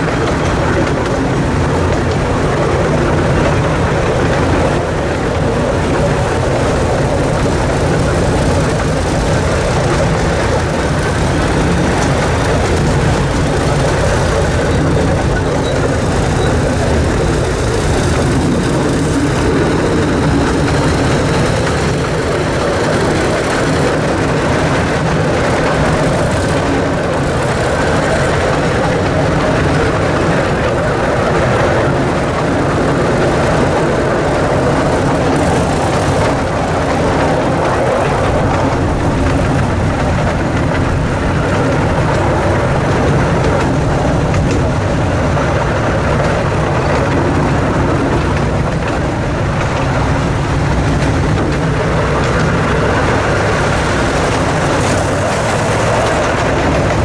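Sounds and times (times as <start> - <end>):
small engine running under load: 0.0 - 57.0
train wheels on rails: 0.0 - 57.0.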